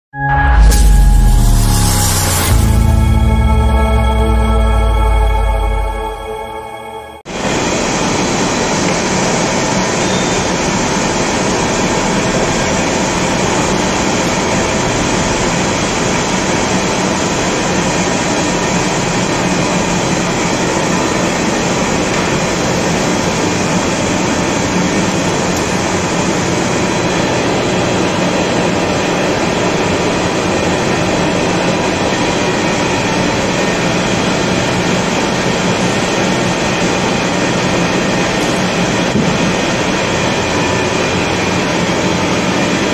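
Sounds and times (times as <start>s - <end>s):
thin high whine: 0.2s - 42.9s
lathe mechanical rumble: 0.6s - 42.9s.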